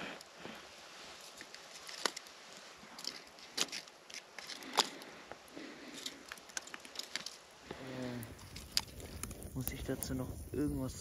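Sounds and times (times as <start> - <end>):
twigs being shifted: 0.0 - 10.2
campfire embers crackling: 0.0 - 11.0.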